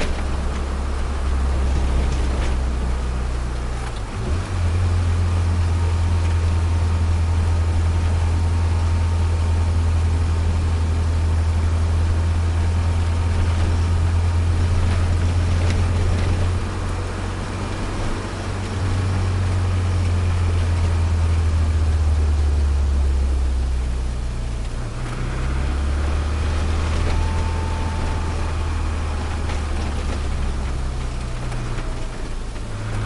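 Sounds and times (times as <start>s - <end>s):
car engine drone: 0.0s - 33.0s
road noise inside car: 0.0s - 33.0s.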